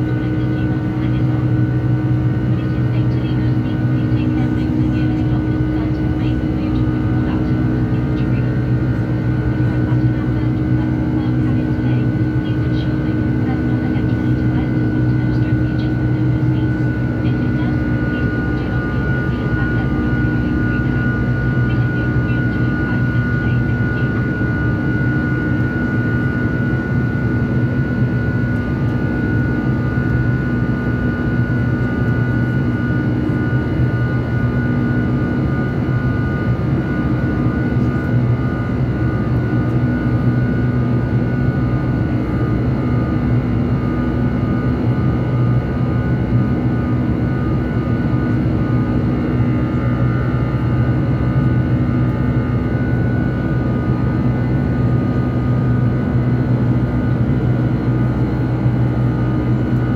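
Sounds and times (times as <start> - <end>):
high engine whine: 0.0 - 59.9
jet engines droning in cabin: 0.0 - 59.9.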